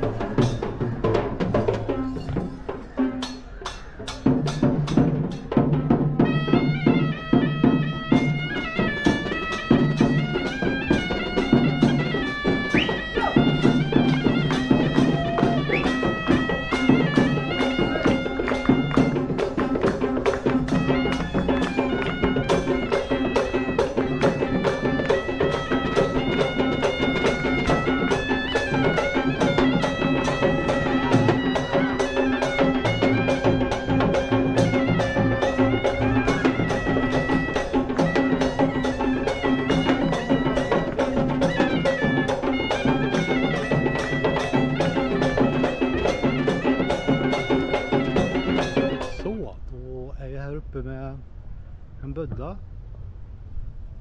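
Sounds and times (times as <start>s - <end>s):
drums beating fast rhythm: 0.0s - 49.4s
shrill reed pipe melody: 1.9s - 49.4s.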